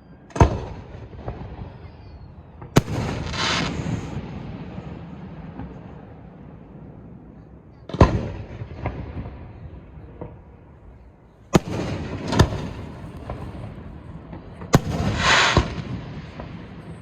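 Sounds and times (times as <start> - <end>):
rumbling tail of fireworks: 0.1 - 17.0
fireworks bangs: 0.3 - 17.0
fireworks crackling: 2.6 - 7.3, 7.9 - 17.0.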